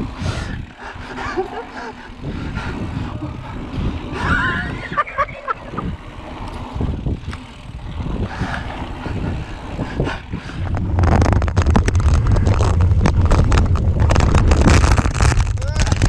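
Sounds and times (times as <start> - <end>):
bike knocking and rattling: 0.0 - 16.0
bike tyres rumbling over dirt: 0.0 - 16.0
wind buffeting microphone: 0.0 - 16.0.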